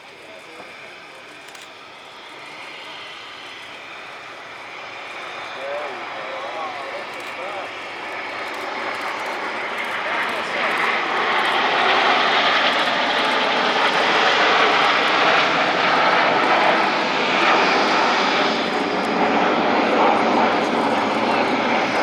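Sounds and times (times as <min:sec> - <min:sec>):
jets roaring past: 0:02.0 - 0:22.0.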